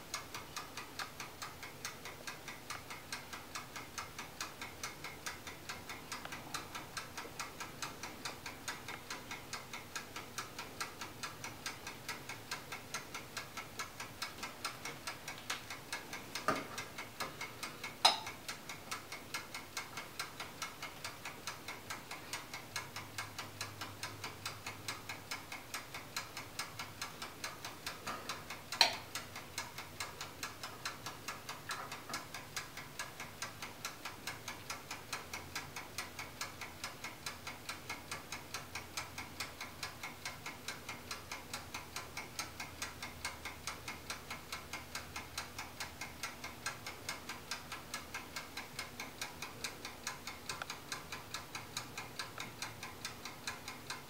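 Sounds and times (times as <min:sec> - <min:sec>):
oven ticking: 0:00.0 - 0:54.0.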